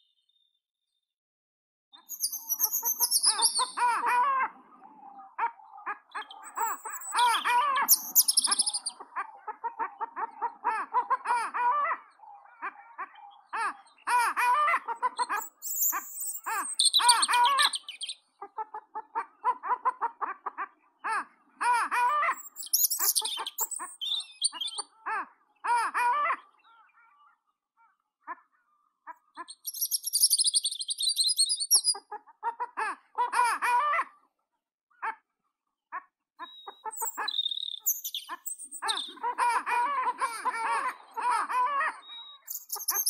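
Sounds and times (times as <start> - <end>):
birds singing and chattering: 1.9 - 34.0, 36.4 - 43.0.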